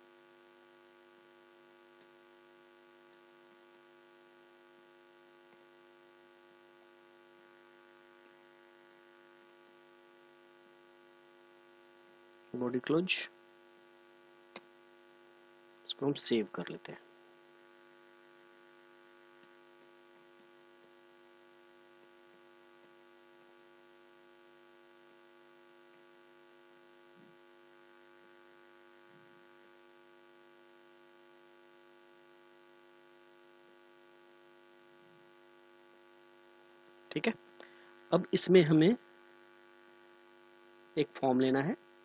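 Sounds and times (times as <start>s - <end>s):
faint electrical mains hum: 0.0s - 42.0s.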